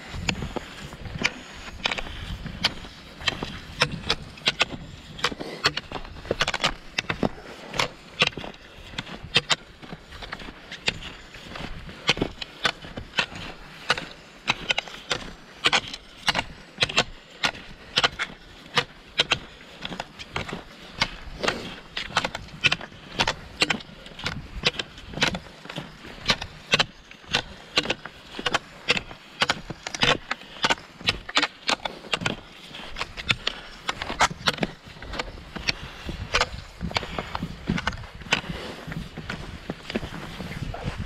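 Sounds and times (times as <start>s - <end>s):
skis and poles crunching snow: 0.0s - 41.0s.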